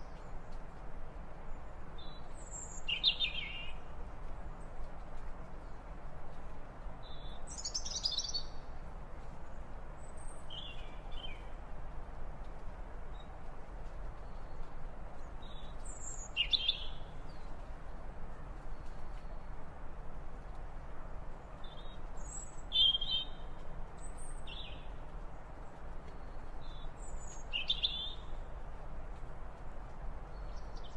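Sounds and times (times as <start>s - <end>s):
steady outdoor hiss: 0.0s - 30.9s.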